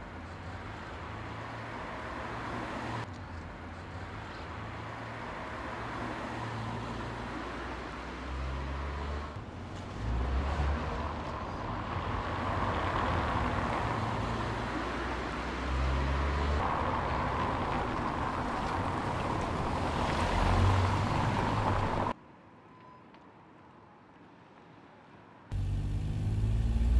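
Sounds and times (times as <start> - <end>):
street traffic noise: 0.0 - 26.9.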